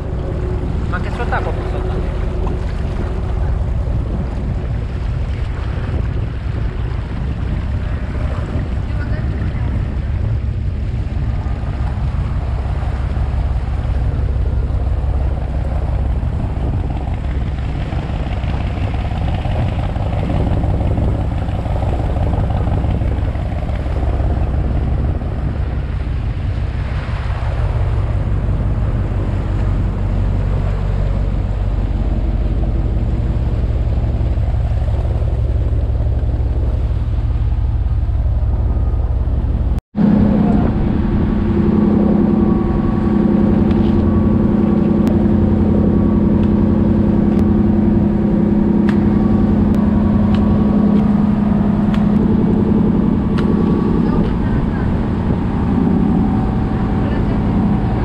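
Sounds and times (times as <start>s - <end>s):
boat engine droning: 0.0s - 58.0s
water noise: 0.0s - 58.0s
wind: 0.0s - 58.0s.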